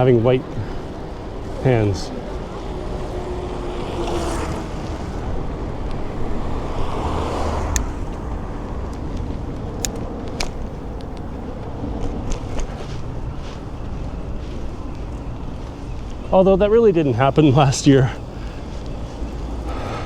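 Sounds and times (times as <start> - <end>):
road traffic passing: 0.0 - 20.0
wind and road noise: 0.0 - 20.0.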